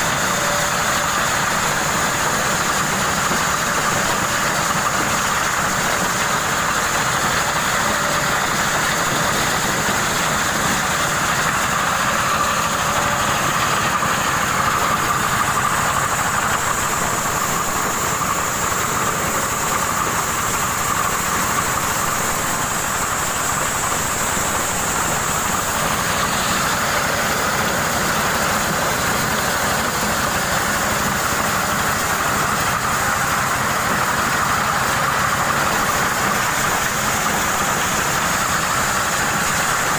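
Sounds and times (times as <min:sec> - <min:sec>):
motorized corn sheller running: 0:00.0 - 0:39.9.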